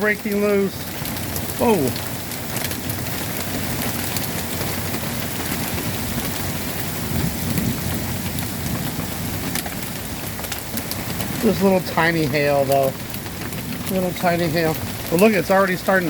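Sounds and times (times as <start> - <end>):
hail pellets ticking: 0.0 - 16.0
heavy rain pouring: 0.0 - 16.0.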